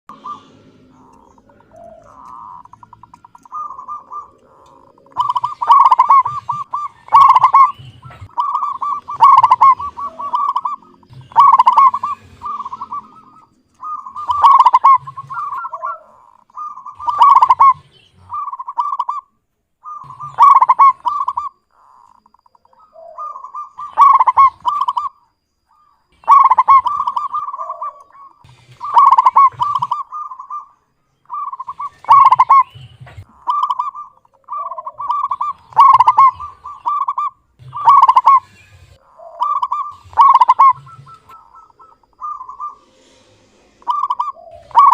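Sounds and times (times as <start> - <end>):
dove cooing: 0.1 - 25.2, 25.8 - 42.8, 43.8 - 44.9.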